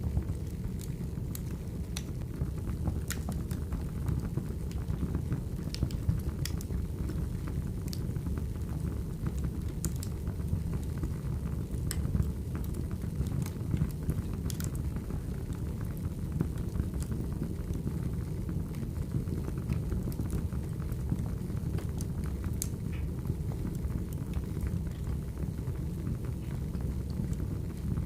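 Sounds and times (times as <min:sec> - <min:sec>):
low rumble of flames: 0:00.0 - 0:28.0
wood crackling and popping: 0:00.0 - 0:28.0.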